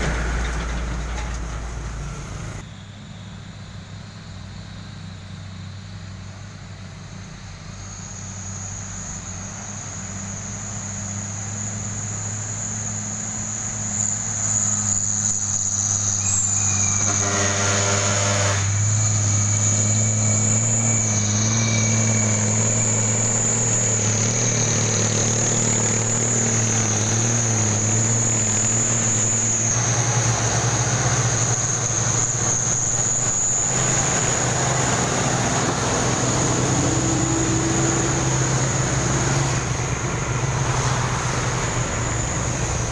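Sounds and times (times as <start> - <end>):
diesel truck engines humming: 0.0 - 42.9
high insect drone: 1.4 - 42.9.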